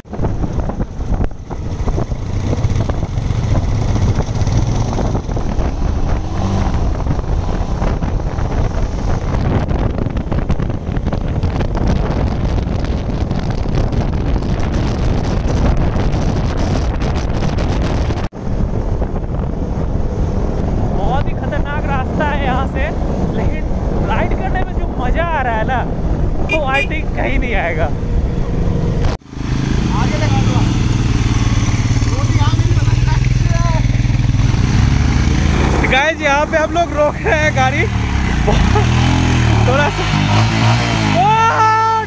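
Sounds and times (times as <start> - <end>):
motorcycle engines: 0.0 - 42.0
wind rush on microphone: 0.0 - 42.0.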